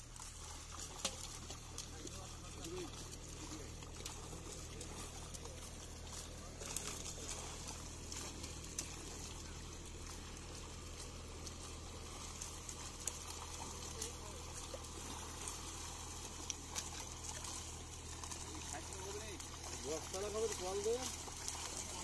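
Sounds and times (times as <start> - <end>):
steady low hum: 0.0 - 22.0
water trickling and splashing: 0.0 - 22.0.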